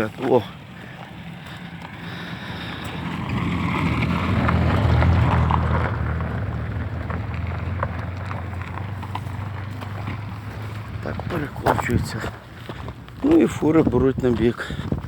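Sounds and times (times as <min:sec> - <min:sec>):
vehicle passing on rough road: 0:00.0 - 0:15.0.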